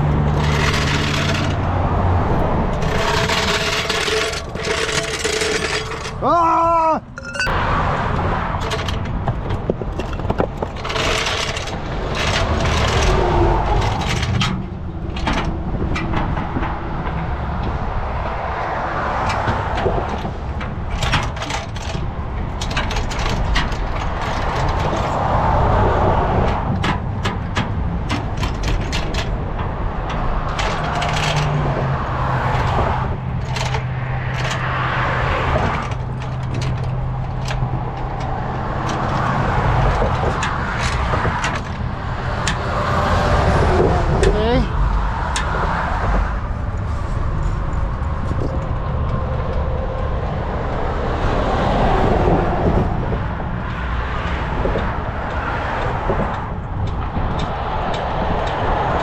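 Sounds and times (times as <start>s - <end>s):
metal clicks and scrapes: 0.0s - 6.5s, 7.1s - 17.8s, 19.0s - 59.0s
road traffic passing: 0.0s - 59.0s.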